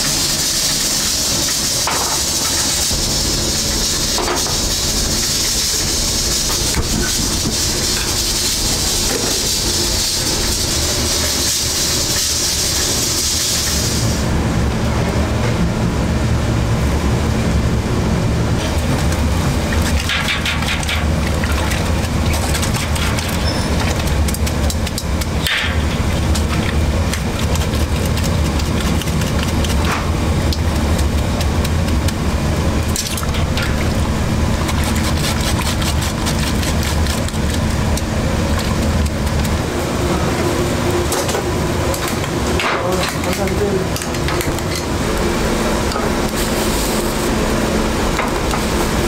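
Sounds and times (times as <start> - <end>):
low kitchen rumble: 0.0 - 49.0.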